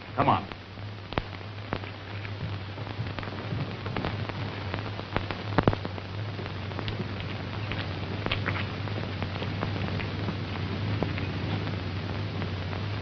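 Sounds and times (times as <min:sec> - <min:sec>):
film soundtrack hiss and crackle: 0:00.0 - 0:13.0
low hum: 0:00.0 - 0:13.0
clicks and pops: 0:00.5 - 0:13.0.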